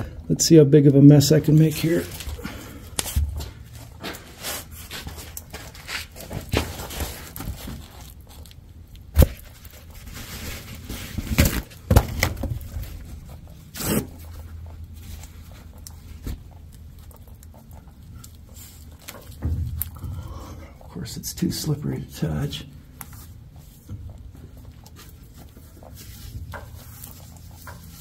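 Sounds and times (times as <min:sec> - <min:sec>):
rustling and scraping: 0:01.0 - 0:28.0.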